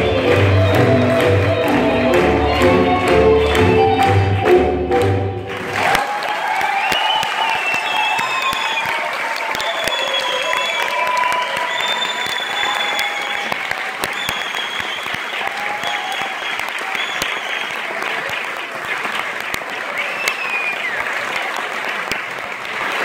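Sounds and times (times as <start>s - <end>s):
audience applauding: 0.0s - 23.0s
audience calls: 0.0s - 23.0s.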